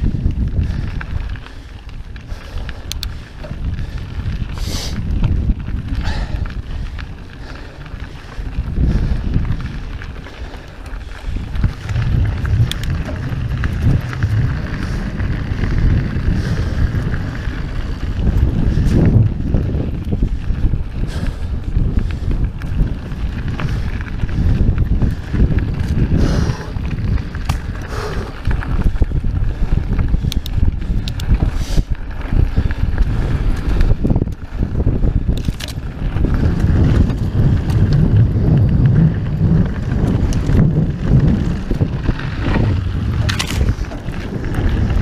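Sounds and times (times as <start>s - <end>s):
bike clicks and knocks: 0.0s - 45.0s
tyres rumbling on dirt and gravel: 0.0s - 45.0s
wind buffeting microphone: 0.0s - 45.0s.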